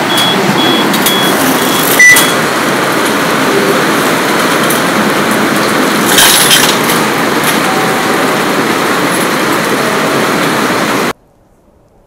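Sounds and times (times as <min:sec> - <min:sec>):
loud rushing noise: 0:00.0 - 0:11.2.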